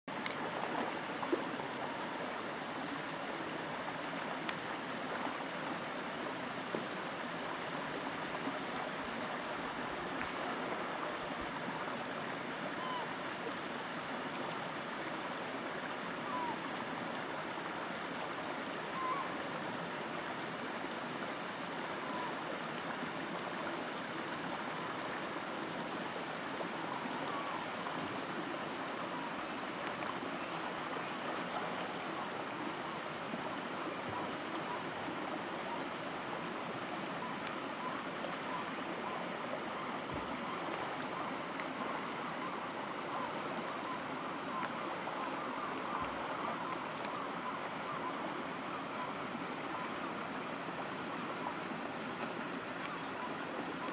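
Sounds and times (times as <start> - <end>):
stream running over rocks: 0.1 - 53.9.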